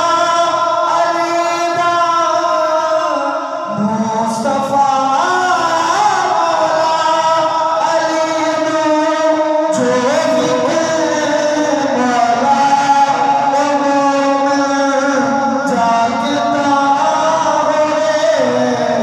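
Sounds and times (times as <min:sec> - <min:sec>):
man singing into microphone: 0:00.0 - 0:19.0.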